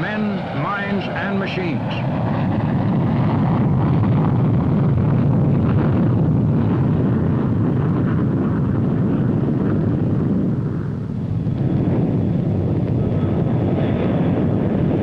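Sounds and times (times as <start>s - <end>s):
jet engines flying overhead: 0.0s - 15.0s.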